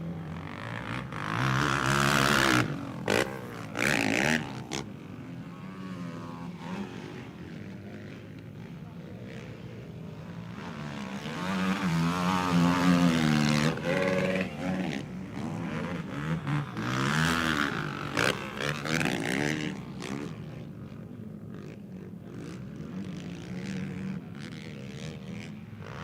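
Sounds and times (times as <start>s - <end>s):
quad engines revving: 0.0s - 26.0s.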